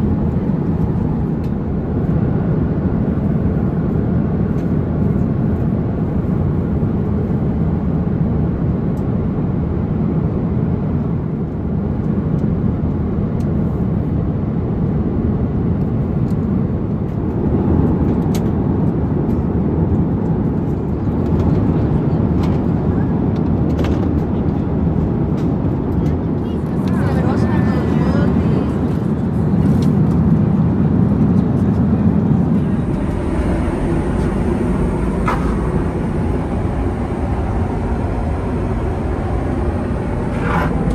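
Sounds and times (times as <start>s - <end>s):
airplane cabin roar: 0.0s - 40.9s.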